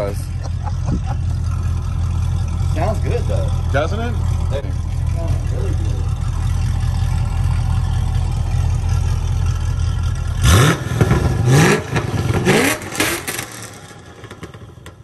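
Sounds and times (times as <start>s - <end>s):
car engine idling and accelerating: 0.0s - 15.0s.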